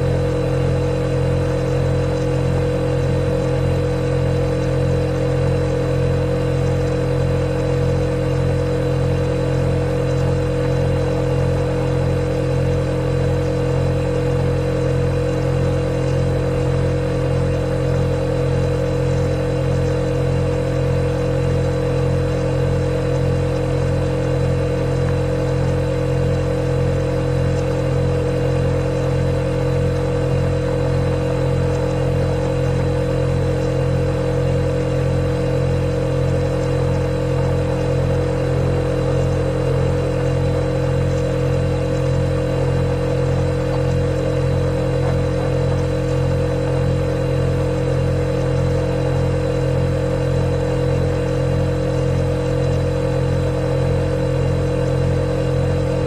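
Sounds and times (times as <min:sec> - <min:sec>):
refrigerator compressor hum: 0:00.0 - 0:56.0.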